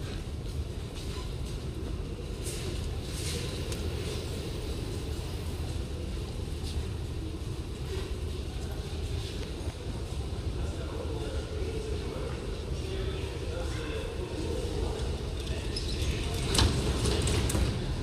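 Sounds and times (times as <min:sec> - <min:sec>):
low rumble of subway train: 0:00.0 - 0:18.0
passengers' footsteps: 0:00.0 - 0:18.0.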